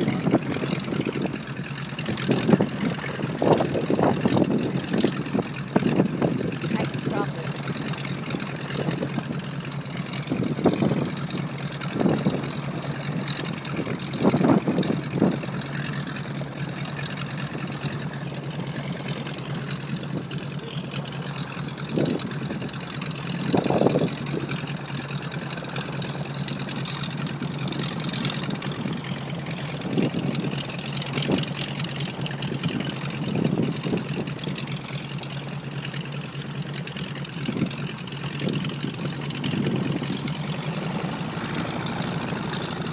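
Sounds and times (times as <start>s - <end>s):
radial aircraft engine idling: 0.0s - 42.9s.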